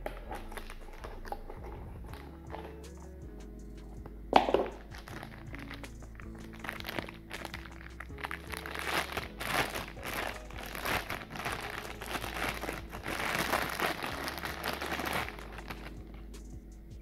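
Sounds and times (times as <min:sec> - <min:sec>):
packaging crinkling and rustling: 0:00.0 - 0:02.8, 0:04.4 - 0:16.2
background music: 0:00.0 - 0:17.0.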